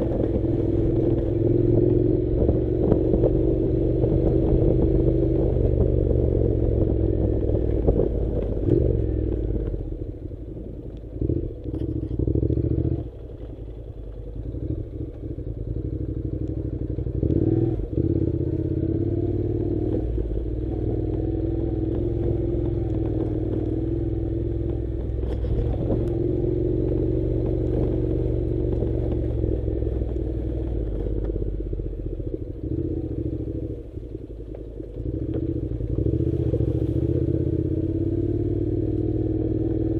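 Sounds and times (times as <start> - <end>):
motorcycle engine running: 0.0 - 39.9
motorcycle rattling: 0.0 - 39.9.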